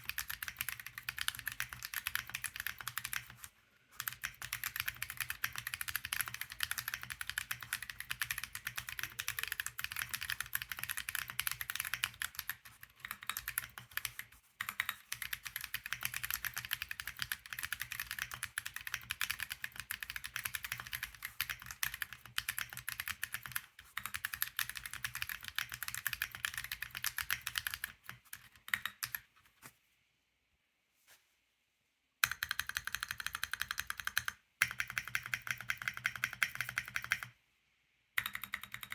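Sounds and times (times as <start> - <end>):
mechanical keyboard typing: 0.0 - 29.3, 32.2 - 37.4, 38.2 - 38.9.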